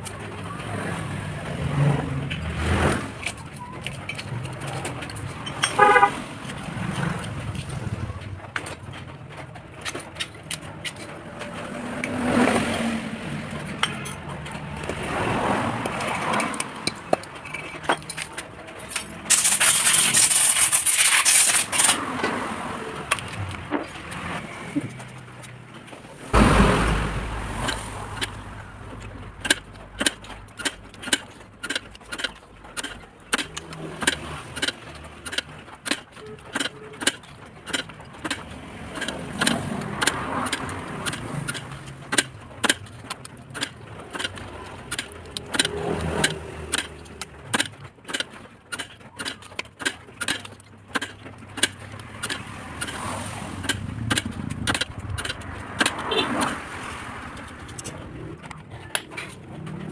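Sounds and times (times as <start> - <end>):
hand tools clicking on metal: 0.0 - 25.9, 27.5 - 59.9
metal clatter: 1.4 - 59.9.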